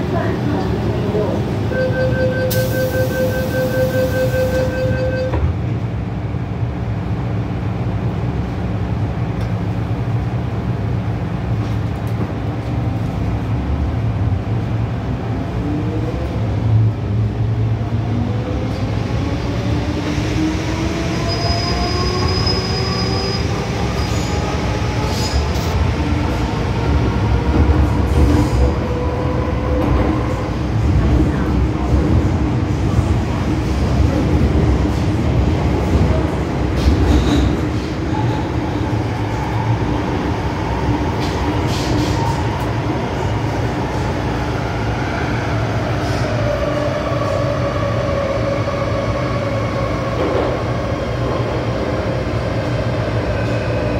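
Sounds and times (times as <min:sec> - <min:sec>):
rumble of train wheels on track: 0:00.0 - 0:53.9.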